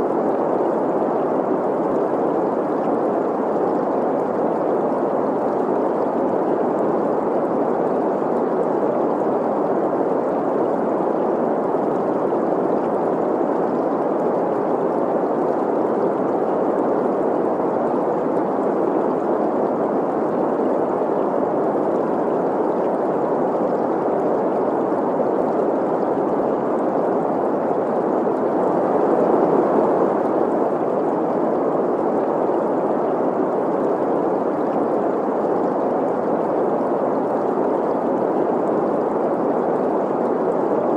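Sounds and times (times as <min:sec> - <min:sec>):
flowing stream: 0:00.0 - 0:40.9.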